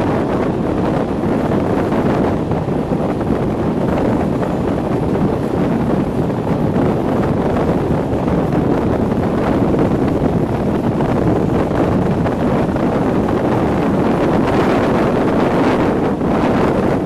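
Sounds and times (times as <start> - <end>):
train running noise: 0.0 - 17.0
wind buffeting microphone: 0.0 - 17.0.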